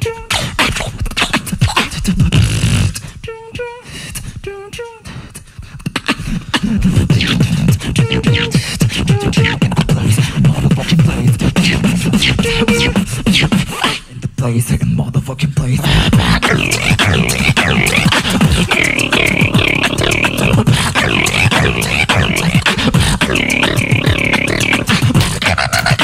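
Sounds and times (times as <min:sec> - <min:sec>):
bass-heavy beatbox beat: 0:00.0 - 0:26.0
beatbox mouth percussion: 0:00.0 - 0:26.0
pitched vocal notes: 0:00.0 - 0:26.0.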